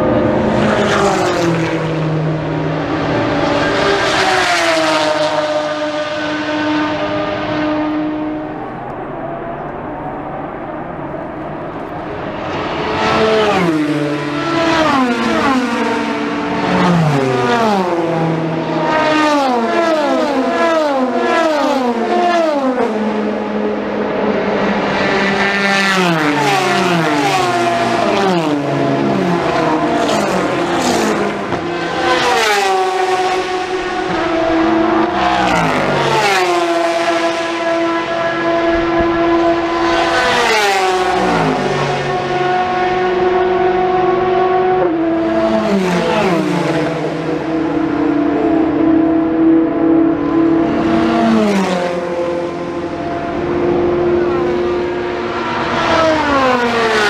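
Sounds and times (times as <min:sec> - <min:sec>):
race cars downshifting: 0:00.0 - 0:57.0.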